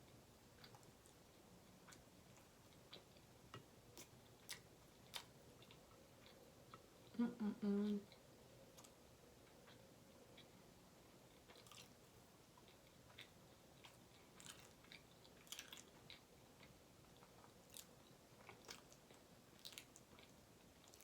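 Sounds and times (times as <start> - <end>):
chewing soft food: 0.0 - 7.2, 8.0 - 21.0.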